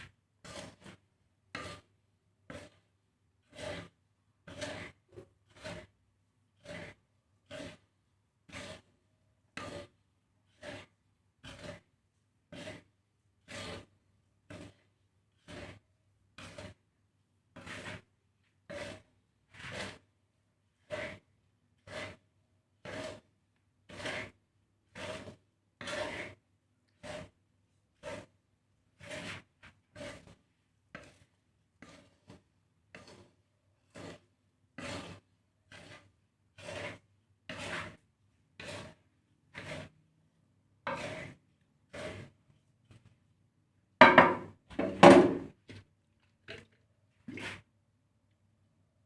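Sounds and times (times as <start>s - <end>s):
spatula scraping seeds in pan: 0.0s - 47.7s.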